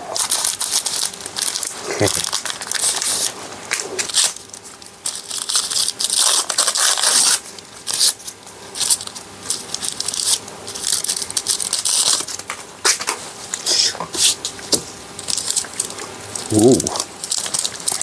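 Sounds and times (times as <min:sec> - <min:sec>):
chocolate wrapper crinkling and tearing: 0:00.0 - 0:14.4, 0:15.1 - 0:18.0.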